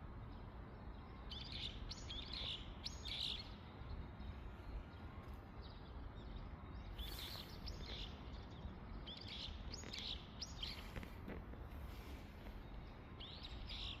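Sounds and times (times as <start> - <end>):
low outdoor hum: 0.0 - 14.0
small birds chirping: 0.2 - 14.0.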